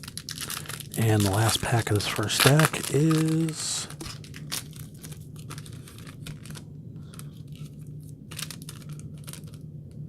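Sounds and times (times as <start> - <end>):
card pack wrapper tearing: 0.0 - 9.6.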